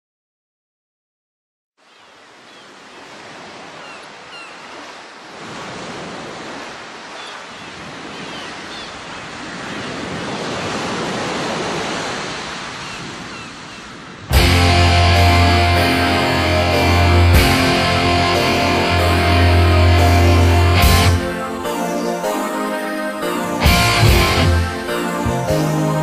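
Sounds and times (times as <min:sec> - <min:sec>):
ocean surf washing in: 0:02.7 - 0:26.0.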